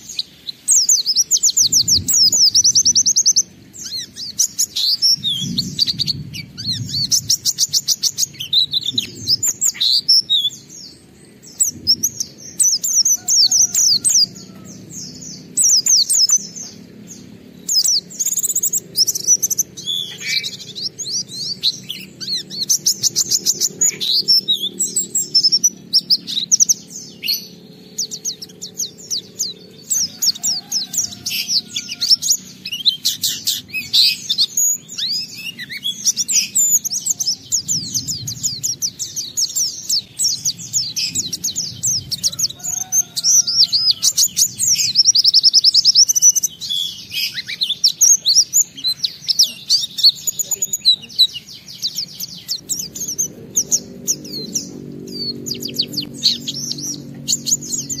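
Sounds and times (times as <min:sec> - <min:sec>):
bird chirping and trilling: 0:00.0 - 0:58.0.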